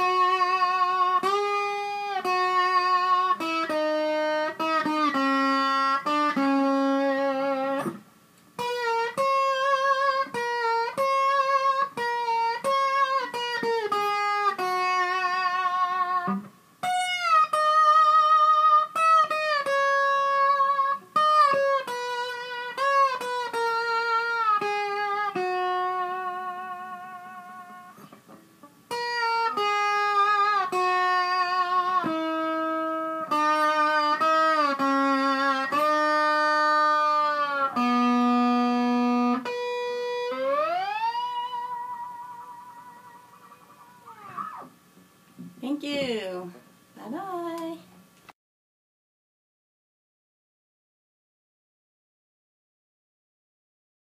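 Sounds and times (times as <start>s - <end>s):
electric slide guitar melody: 0.0s - 8.0s, 8.6s - 44.8s.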